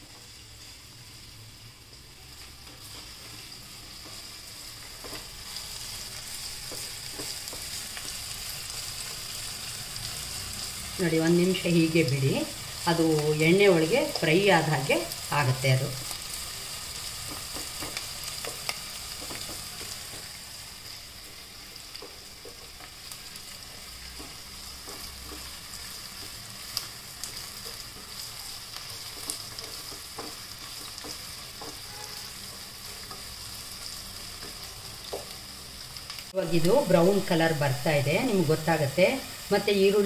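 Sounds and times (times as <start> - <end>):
onions sizzling in oil: 0.0 - 40.0.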